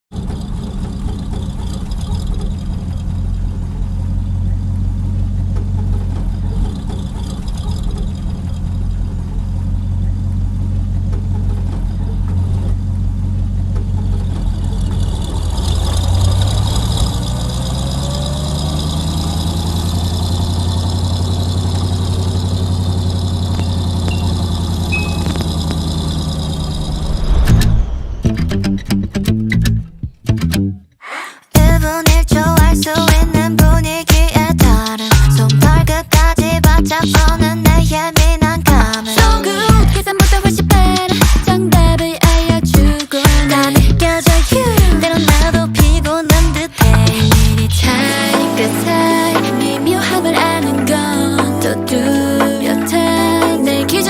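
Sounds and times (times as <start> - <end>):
vehicle engine humming: 0.0 - 30.8, 31.5 - 54.0.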